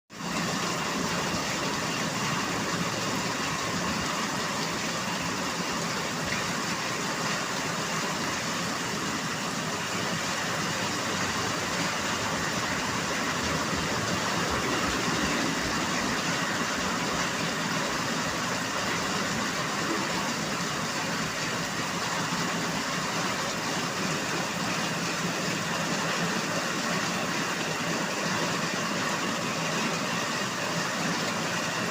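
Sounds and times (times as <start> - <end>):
steady rainfall hiss: 0.1 - 31.9.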